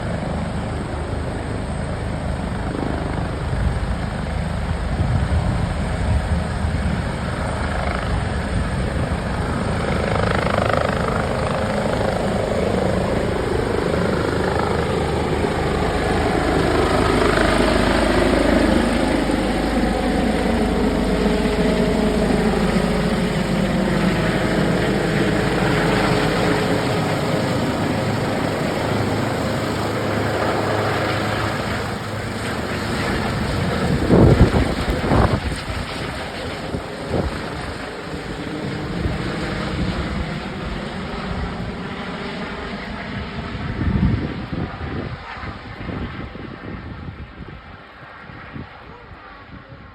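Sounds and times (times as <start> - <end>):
helicopter rotor and turbine: 0.0 - 49.9.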